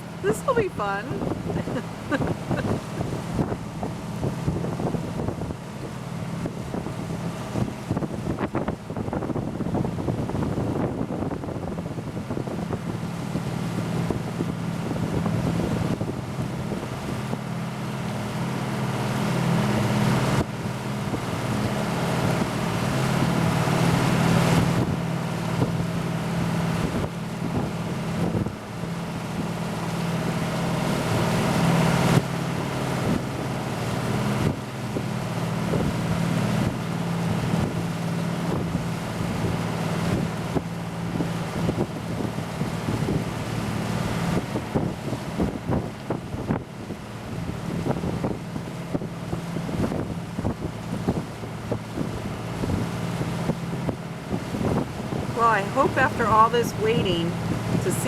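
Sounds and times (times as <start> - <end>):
wind gusting on microphone: 0.0 - 17.6, 19.0 - 58.0
boat engines humming: 0.0 - 58.0.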